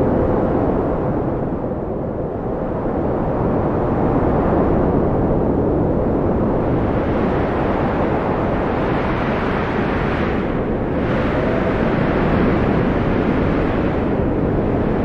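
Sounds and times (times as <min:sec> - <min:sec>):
strong wind rushing: 0:00.0 - 0:15.0.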